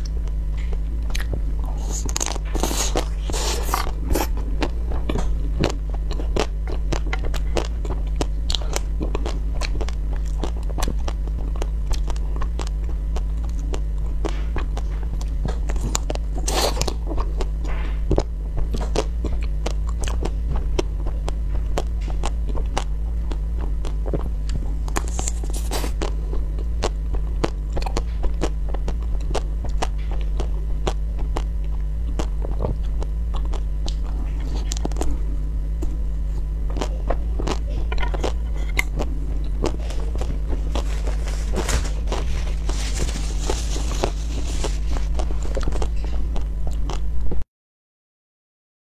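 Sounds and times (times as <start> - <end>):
crunchy ice cream chewing: 0.0 - 47.4
low hum: 0.0 - 47.4.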